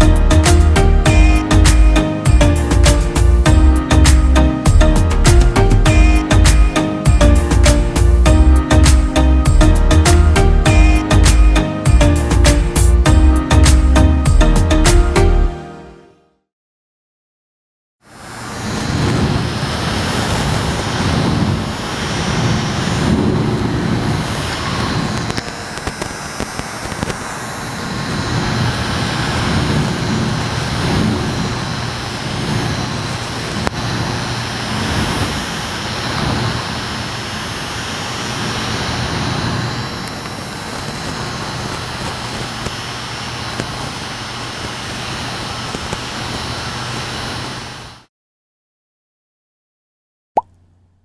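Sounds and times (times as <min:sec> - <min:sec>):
electric fan running: 0:00.0 - 0:14.6, 0:18.1 - 0:48.0.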